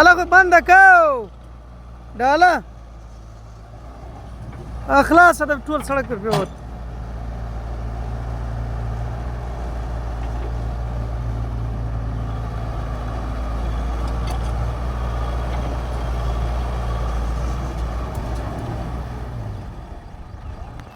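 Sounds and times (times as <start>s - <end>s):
diesel engine droning: 0.0s - 20.9s.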